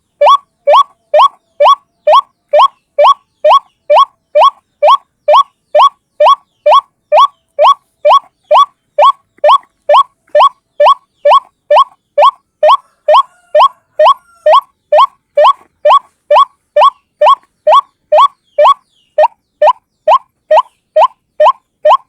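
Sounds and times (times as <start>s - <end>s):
bird calling upward-sliding notes: 0.1s - 22.0s.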